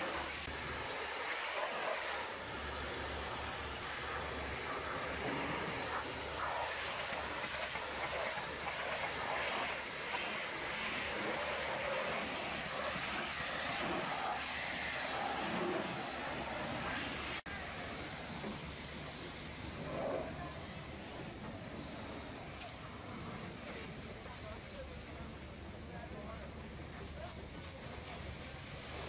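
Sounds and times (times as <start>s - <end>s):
pressure washer water spray hiss: 0.0s - 25.0s, 27.1s - 29.0s.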